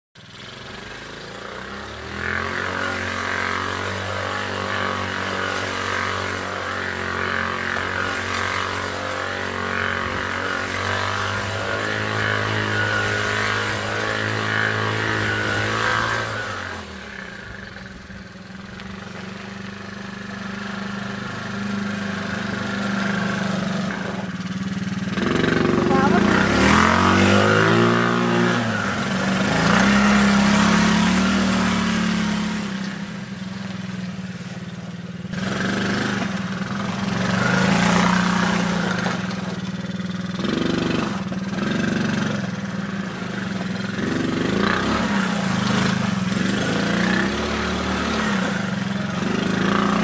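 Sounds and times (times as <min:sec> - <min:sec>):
atv engine running: 0:00.2 - 0:50.0.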